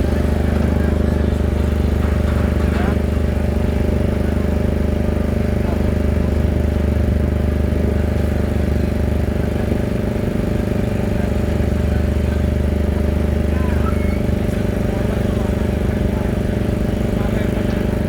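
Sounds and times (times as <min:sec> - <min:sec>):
large machine engine humming: 0:00.0 - 0:18.0.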